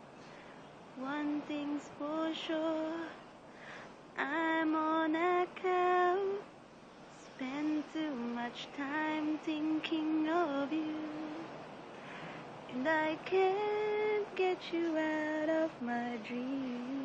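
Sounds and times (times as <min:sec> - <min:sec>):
woman singing unaccompanied: 0:00.9 - 0:03.4, 0:04.0 - 0:11.9, 0:12.6 - 0:17.0.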